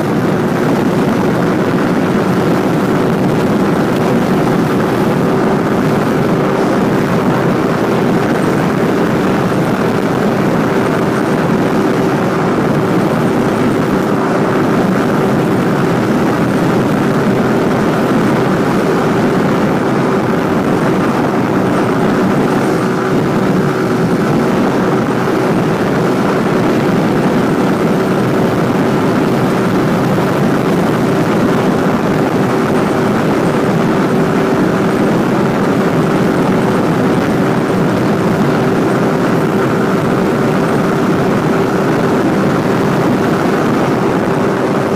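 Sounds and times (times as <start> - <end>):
motorcycle engine droning: 0.0 - 44.9
wind noise on microphone: 0.0 - 44.9.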